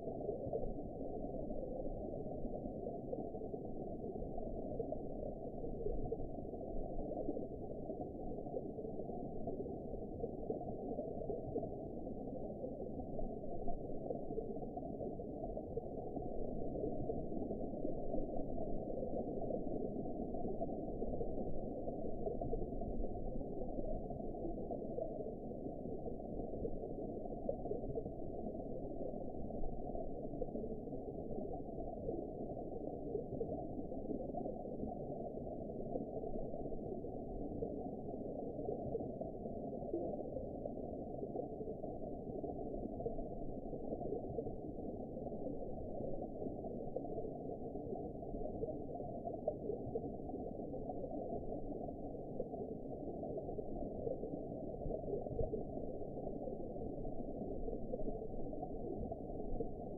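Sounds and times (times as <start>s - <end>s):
muffled underwater water noise: 0.0s - 59.9s.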